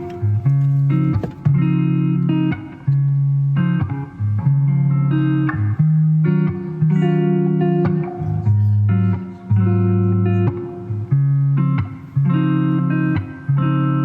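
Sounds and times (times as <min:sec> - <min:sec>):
guitar instrumental music: 0:00.0 - 0:14.0.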